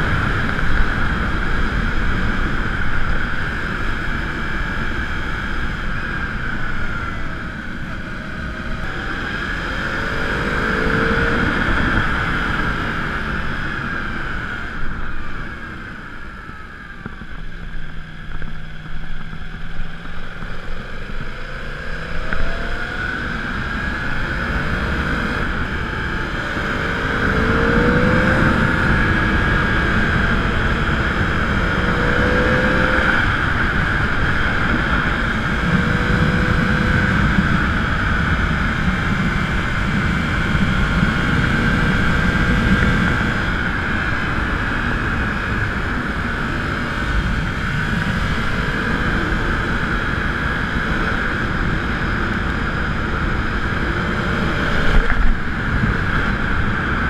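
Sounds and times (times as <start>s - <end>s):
riding rumble and rush: 0.0s - 57.0s.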